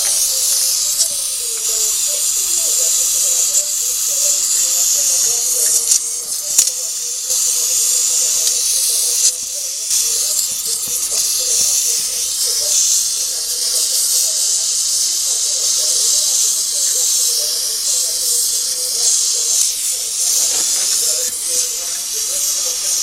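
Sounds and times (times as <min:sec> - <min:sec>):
faint wavering voices: 0:00.0 - 0:23.0
loud steady hiss: 0:00.0 - 0:23.0.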